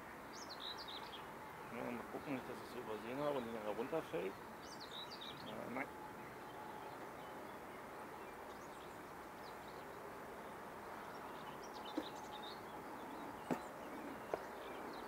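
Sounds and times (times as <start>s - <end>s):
birds chirping: 0.0s - 15.0s
honeybee colony humming: 1.6s - 15.0s.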